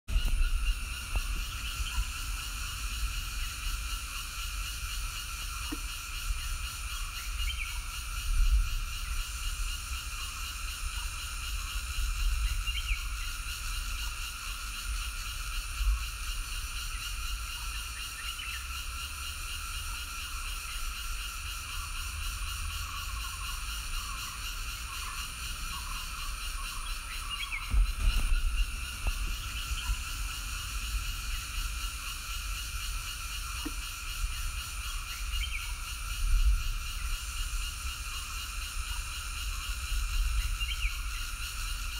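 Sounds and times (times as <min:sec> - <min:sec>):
frogs and insects trilling: 0:00.1 - 0:41.9.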